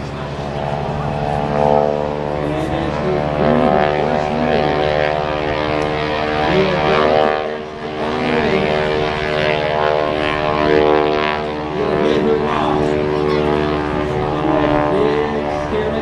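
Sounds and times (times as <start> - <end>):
propeller plane engine: 0.0 - 16.0.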